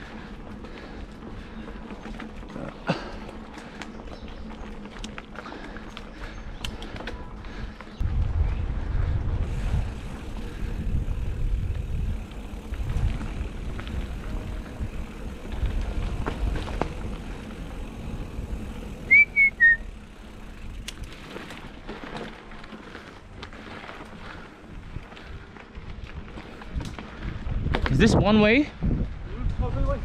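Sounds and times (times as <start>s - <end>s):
bike rumbling over dirt trail: 0.0s - 30.0s.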